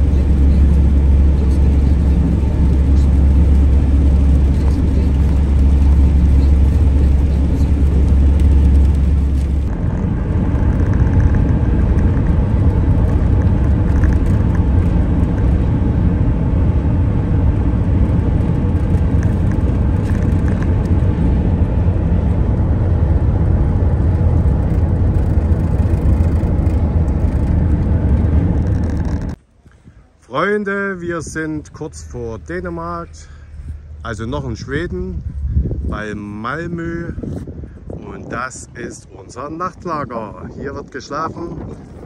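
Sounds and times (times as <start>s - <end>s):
engine drone: 0.0s - 38.9s
tyre and road noise: 0.0s - 42.0s.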